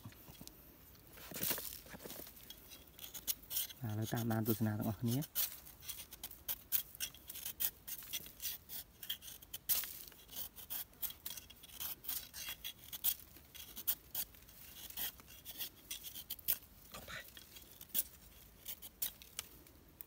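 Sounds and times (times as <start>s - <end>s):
knife scraping rattan: 2.0s - 19.4s.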